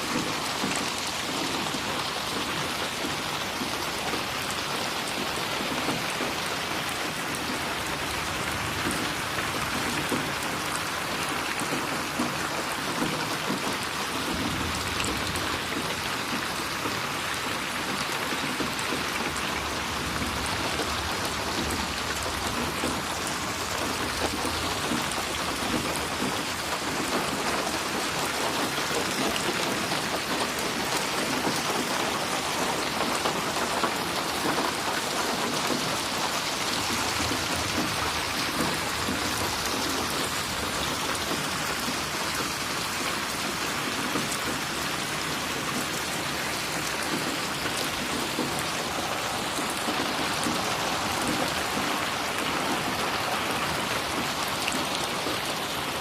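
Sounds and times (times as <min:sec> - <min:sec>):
rain splashing on a surface: 0:00.0 - 0:56.0.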